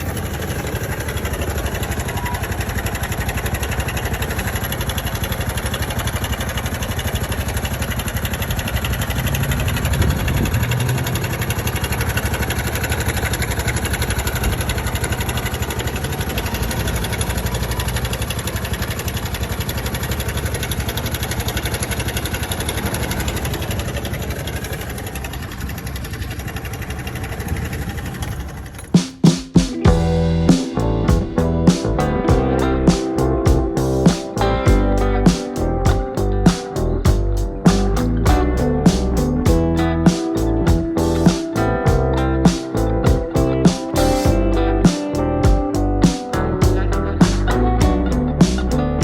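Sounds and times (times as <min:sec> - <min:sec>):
motorcycle engine idling: 0:00.0 - 0:29.1, 0:29.9 - 0:48.9.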